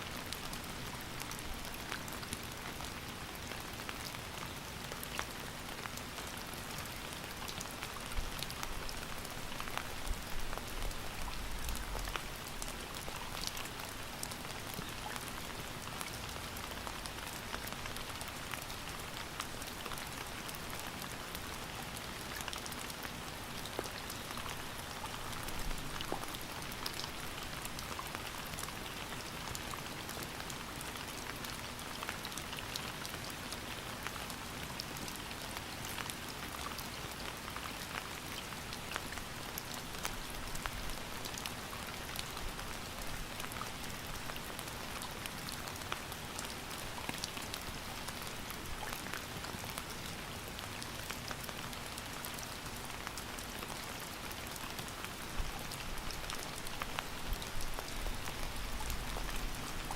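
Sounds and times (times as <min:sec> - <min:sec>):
rain ticking on hard surface: 0:00.0 - 0:59.9.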